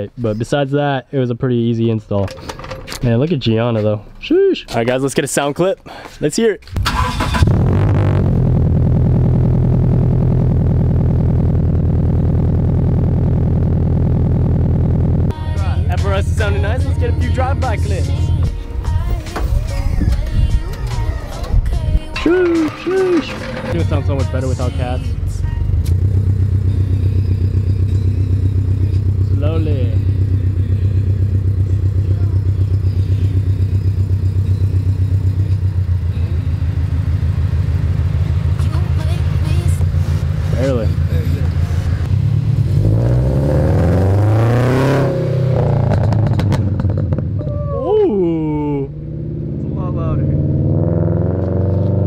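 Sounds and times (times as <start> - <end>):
car engine idling: 6.6 - 50.5.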